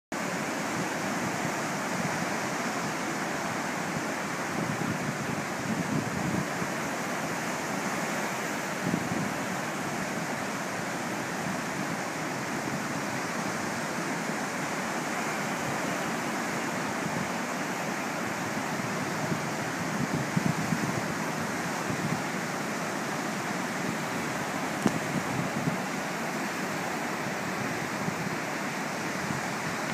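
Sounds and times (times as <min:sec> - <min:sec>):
ocean waves washing up beach: 0:00.2 - 0:29.9.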